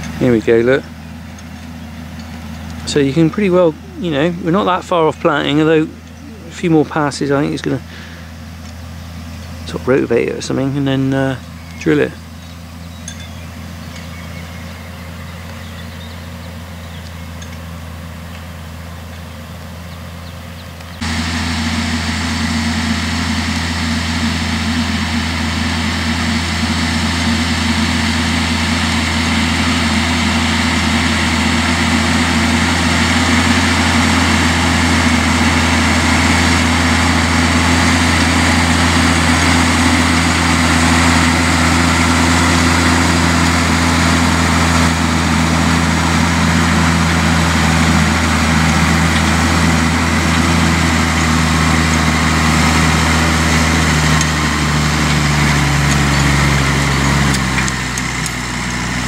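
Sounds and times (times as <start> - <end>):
cultivator working soil: 0.0 - 59.0
tractor engine droning: 0.0 - 59.0.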